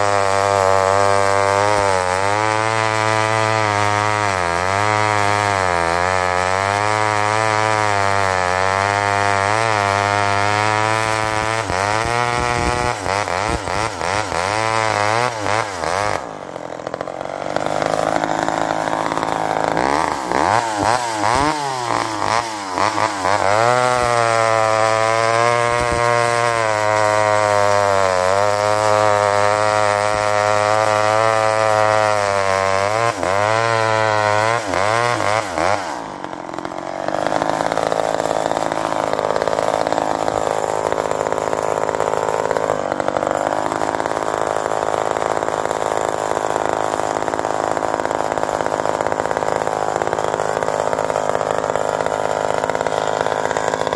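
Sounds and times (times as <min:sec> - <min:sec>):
chainsaw cutting log: 0:00.0 - 0:53.9.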